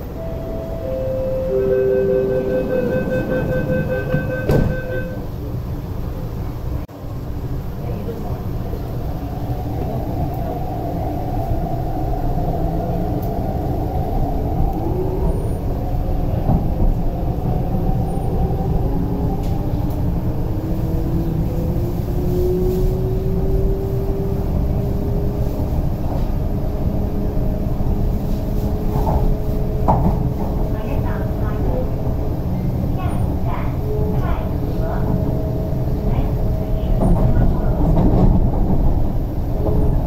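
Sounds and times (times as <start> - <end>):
train wheels rumbling: 0.0 - 40.0.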